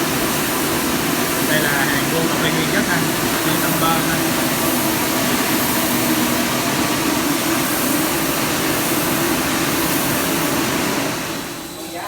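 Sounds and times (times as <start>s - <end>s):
coffee roaster whirring: 0.0s - 12.0s.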